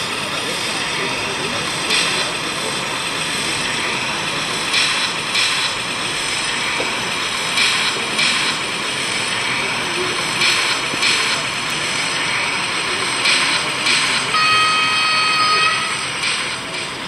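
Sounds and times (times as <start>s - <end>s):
steady background din: 0.0s - 17.0s.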